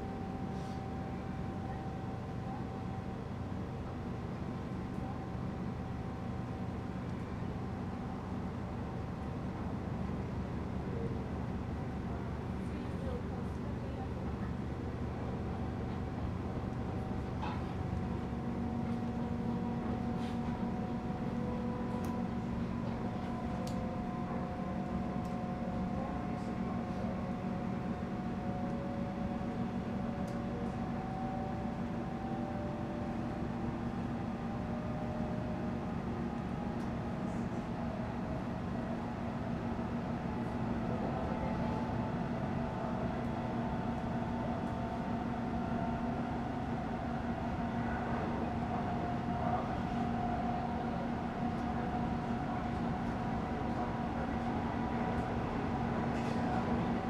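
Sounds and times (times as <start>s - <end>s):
train rumble and hum: 0.0s - 57.0s.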